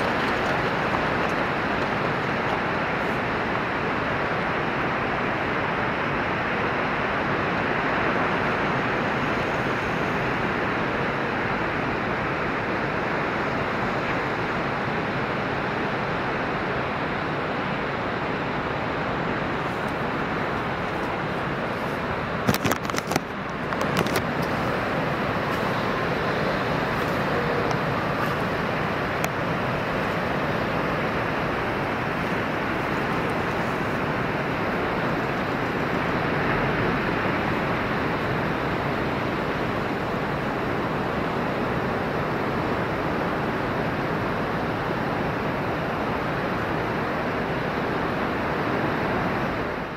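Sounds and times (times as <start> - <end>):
ocean surf roaring: 0.0 - 49.9.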